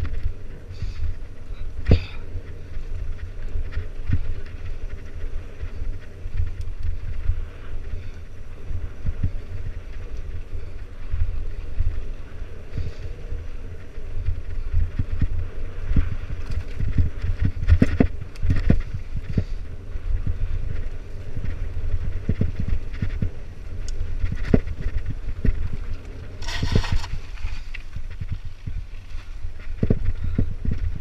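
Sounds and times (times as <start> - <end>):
bike knocking and rattling: 0.0 - 31.0
wind rumble on microphone: 0.0 - 31.0.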